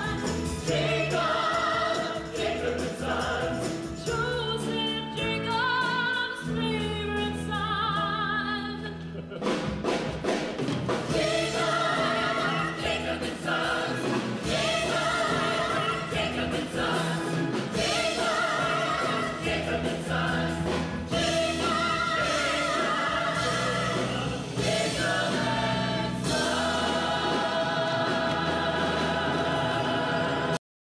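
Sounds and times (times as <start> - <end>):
chorus singing with accompaniment: 0.0 - 5.2, 10.8 - 30.6.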